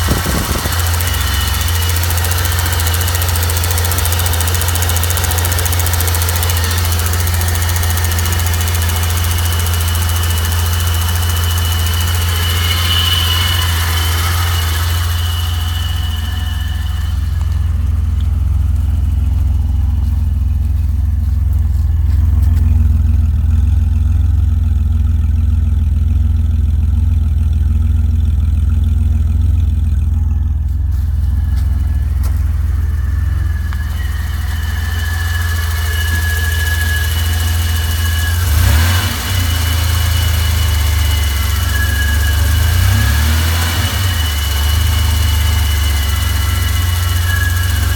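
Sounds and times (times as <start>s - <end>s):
hiss and faint whistle: 0.0s - 22.7s, 30.7s - 47.9s
car engine idling: 0.0s - 47.9s.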